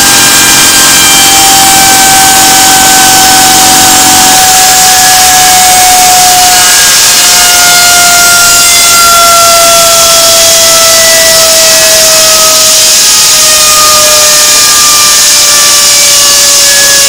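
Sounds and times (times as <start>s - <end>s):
turbine air hiss and whine: 0.0s - 17.0s.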